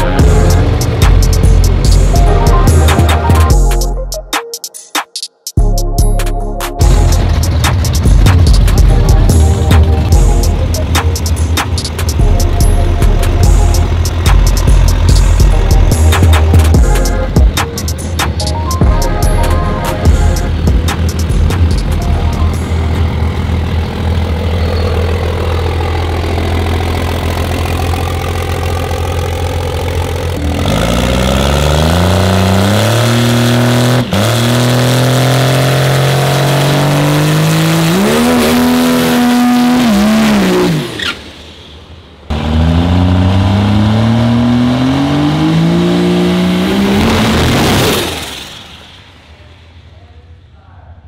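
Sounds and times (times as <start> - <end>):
dragster engine revving: 0.0 - 3.4, 6.8 - 18.4, 19.1 - 41.5, 42.3 - 50.0.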